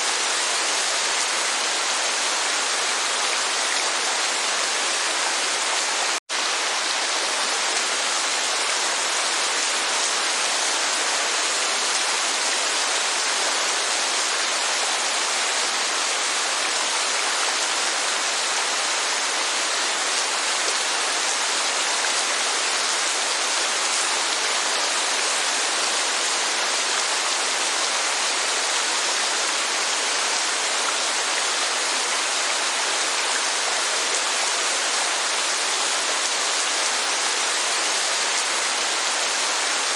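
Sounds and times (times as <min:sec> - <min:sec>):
rainfall hiss: 0:00.0 - 0:39.9.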